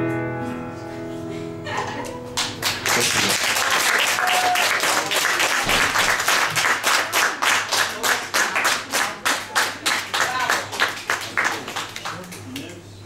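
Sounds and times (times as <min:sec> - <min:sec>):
audience applauding: 0:02.3 - 0:12.9.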